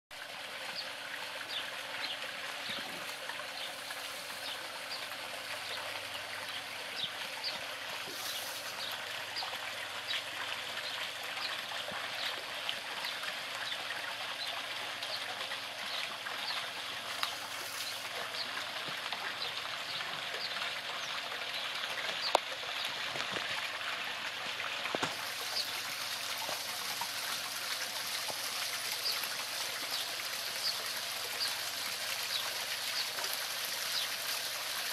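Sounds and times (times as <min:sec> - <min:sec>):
fountain and waterfall splashing: 0:00.2 - 0:34.9.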